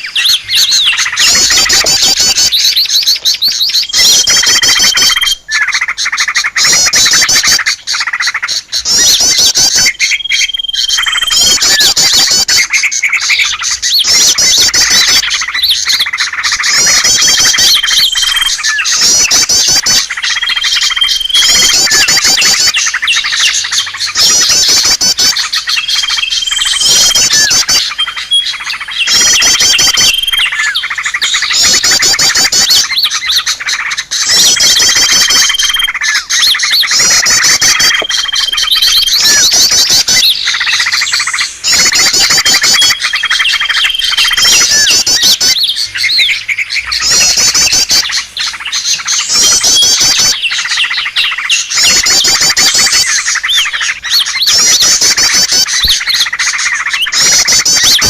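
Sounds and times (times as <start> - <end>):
high trilled bird phrases: 0.0 - 58.0
songbirds chirping and twittering: 0.0 - 58.0.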